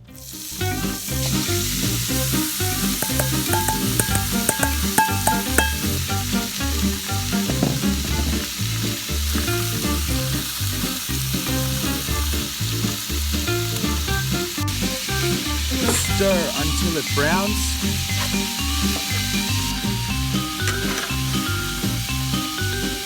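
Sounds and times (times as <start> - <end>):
background music with bass: 0.0 - 23.0
meat sizzling in a pan: 0.1 - 23.0.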